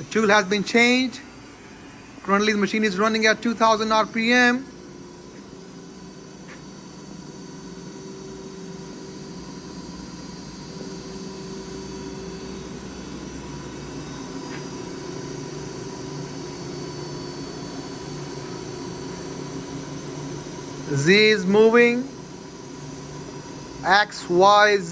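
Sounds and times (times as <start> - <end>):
machine spindle humming: 0.0 - 24.9.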